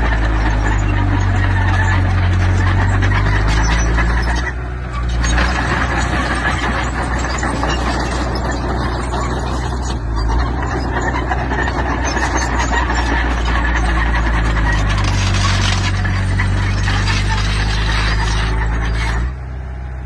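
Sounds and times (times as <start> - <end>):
heavy machinery diesel engine droning: 0.0 - 20.0.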